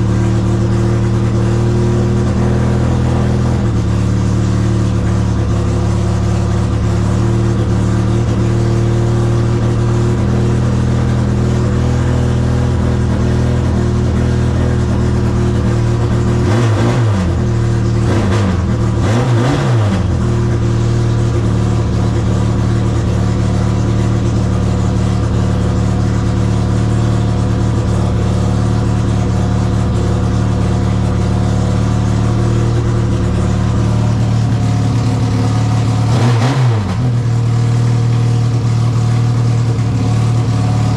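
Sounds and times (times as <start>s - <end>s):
car engine warming up: 0.0s - 40.9s
engine throttle blips: 0.0s - 40.9s.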